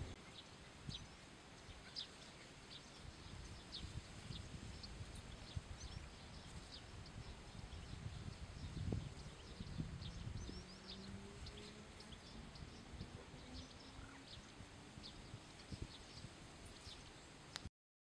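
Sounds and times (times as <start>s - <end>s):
small birds chirping: 0.0s - 17.7s.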